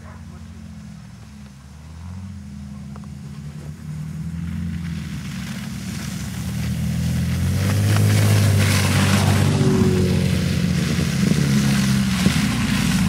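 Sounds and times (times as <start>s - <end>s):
car engine running: 0.0s - 13.0s
tyres hissing on snow: 0.0s - 13.0s.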